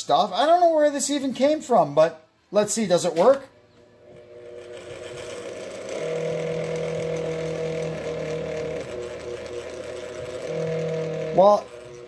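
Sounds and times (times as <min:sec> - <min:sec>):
electric fan motor humming: 0:00.0 - 0:12.0.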